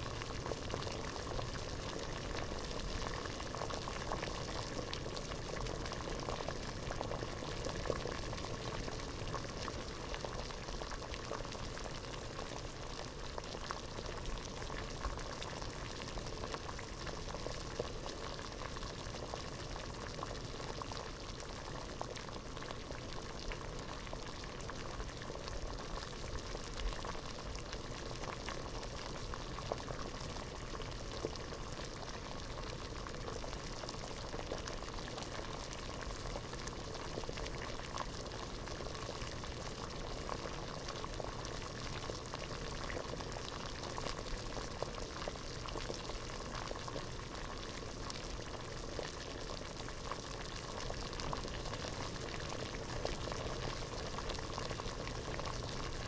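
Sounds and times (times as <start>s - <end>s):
water boiling hard in pot: 0.0s - 56.0s.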